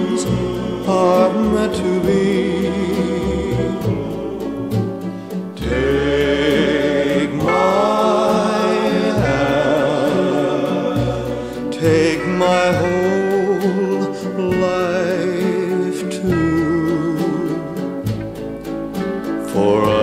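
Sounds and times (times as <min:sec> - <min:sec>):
slow song with vibrato: 0:00.0 - 0:20.0.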